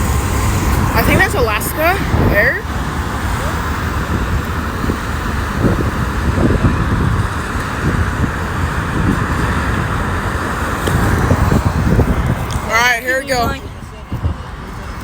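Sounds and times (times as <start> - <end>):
jet airliner taking off: 0.0 - 15.0.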